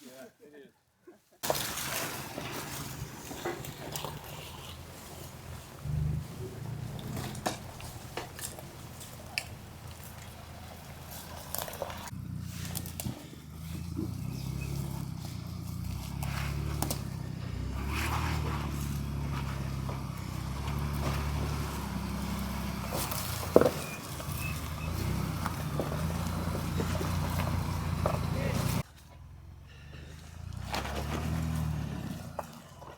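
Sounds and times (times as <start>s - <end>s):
off-road vehicle engine running: 2.2s - 32.9s.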